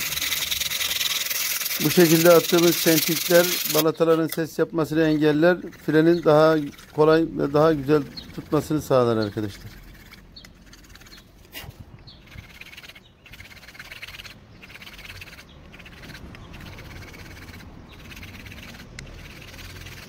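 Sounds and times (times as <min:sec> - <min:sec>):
rasping strokes on brake pad: 0:00.0 - 0:03.8, 0:04.9 - 0:20.0.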